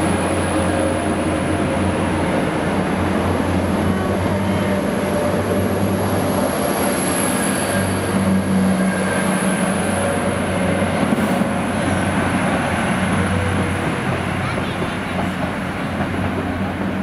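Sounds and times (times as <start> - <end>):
train engines humming: 0.0 - 17.0
wheels rumbling on rail: 0.0 - 17.0.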